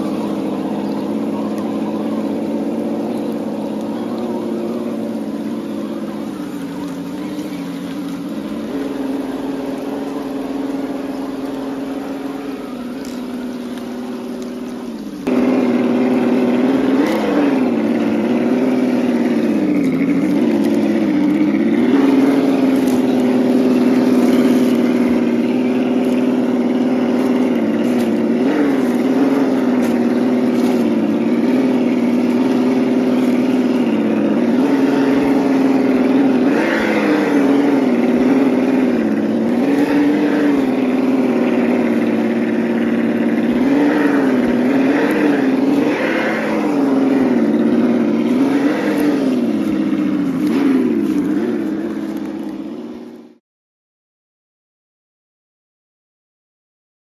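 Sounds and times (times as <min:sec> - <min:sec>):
rc car motor whining: 0:00.0 - 0:53.3.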